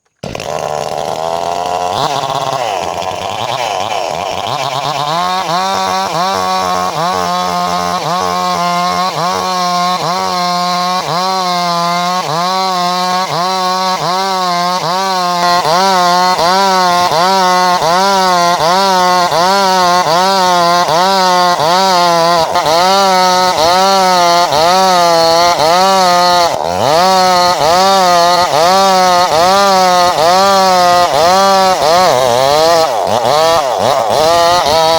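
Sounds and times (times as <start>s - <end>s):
chainsaw cutting timber: 0.0s - 34.9s.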